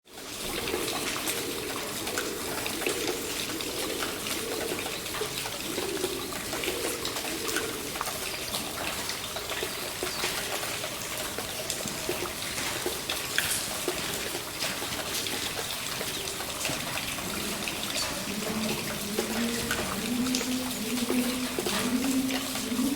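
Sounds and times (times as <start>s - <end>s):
running water trickling: 0.0s - 22.9s
water drops tapping: 0.8s - 22.9s.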